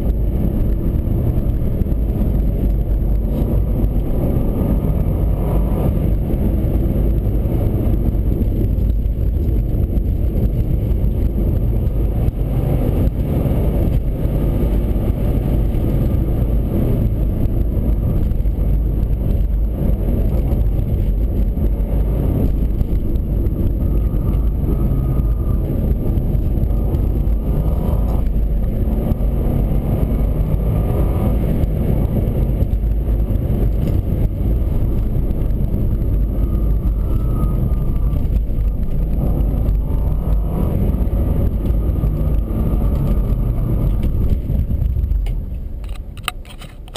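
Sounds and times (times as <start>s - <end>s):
car engine running: 0.0s - 46.9s
tyres rumbling on road: 0.0s - 46.9s.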